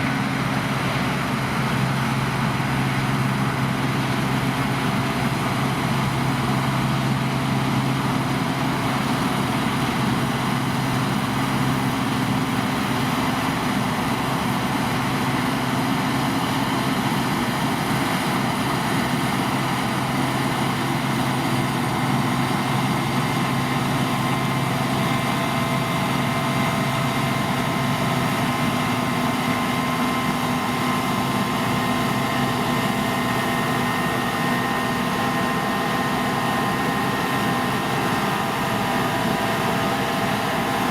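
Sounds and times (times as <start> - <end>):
combine harvester drone: 0.0 - 40.9.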